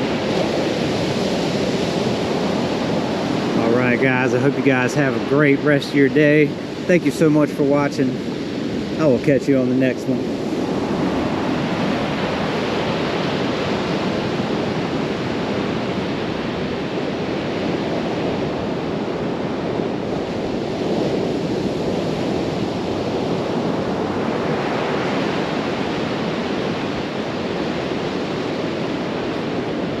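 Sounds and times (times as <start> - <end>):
ocean surf breaking on beach: 0.0 - 30.0
wind on microphone: 0.0 - 30.0.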